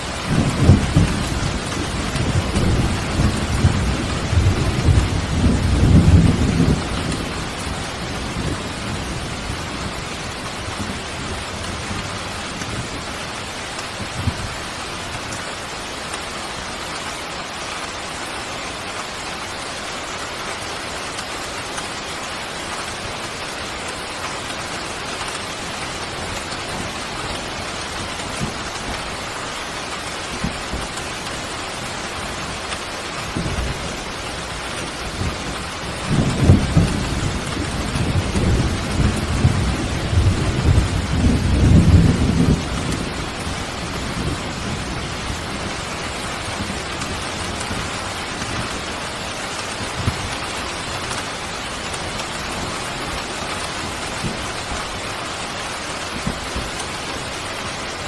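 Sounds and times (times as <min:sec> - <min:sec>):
thunder rumbling: 0:00.0 - 0:15.4, 0:24.0 - 0:55.1
steady rain falling: 0:00.0 - 0:58.0.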